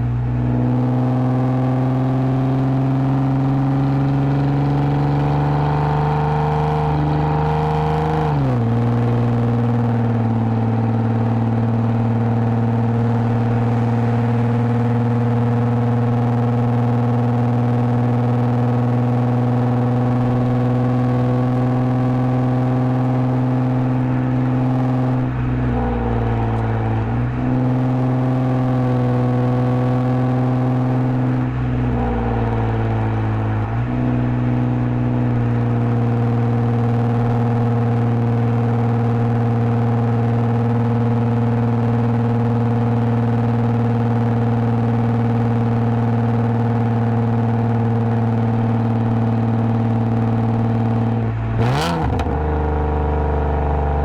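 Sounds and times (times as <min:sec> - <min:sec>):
car engine droning at cruise: 0:00.0 - 0:54.0.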